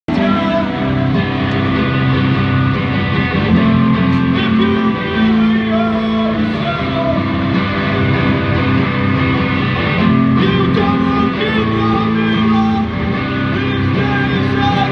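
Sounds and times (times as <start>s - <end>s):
guitar-led rock music: 0.1s - 14.9s.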